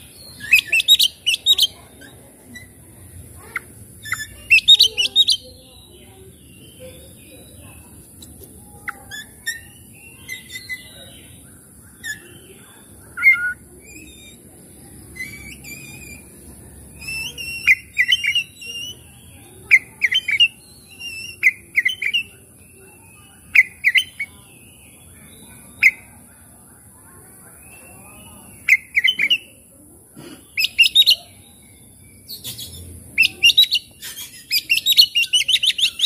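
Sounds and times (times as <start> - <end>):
bird singing whistled notes: 0.1 - 2.8, 3.5 - 7.4, 8.8 - 12.6, 13.2 - 14.4, 15.1 - 16.3, 16.9 - 26.1, 27.6 - 29.5, 30.6 - 36.0.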